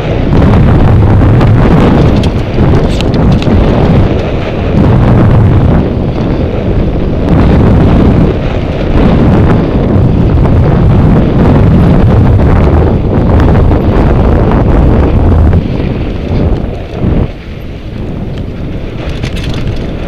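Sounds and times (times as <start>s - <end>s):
bike rattling and knocking: 0.0s - 20.0s
wind buffeting microphone: 0.0s - 20.0s.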